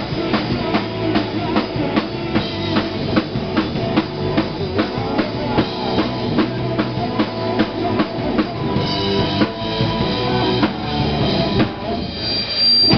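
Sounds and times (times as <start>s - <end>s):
bass drum: 0.0s - 12.0s
drum kit beat: 0.0s - 12.2s
electric guitar: 0.0s - 12.9s.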